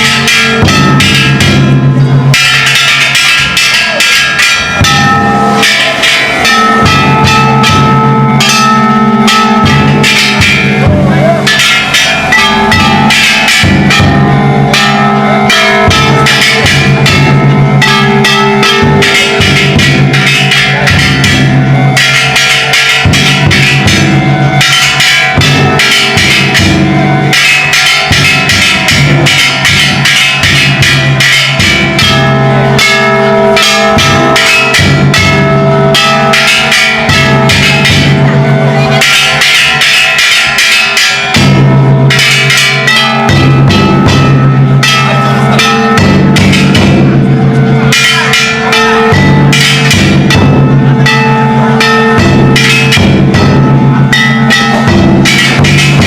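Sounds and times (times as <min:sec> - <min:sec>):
bronze hand gongs ringing: 0:00.0 - 0:56.0
large taiko drum: 0:00.0 - 0:56.0.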